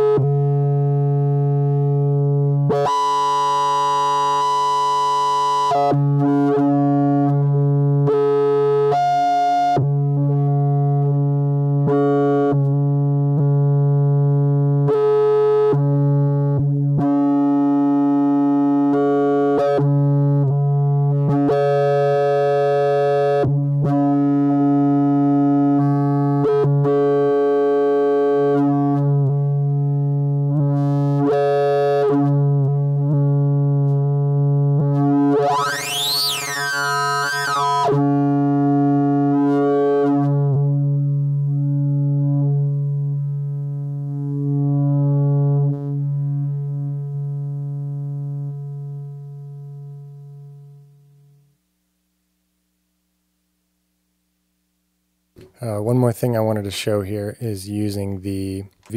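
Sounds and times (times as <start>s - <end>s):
droning synthesizer: 0.0s - 51.6s.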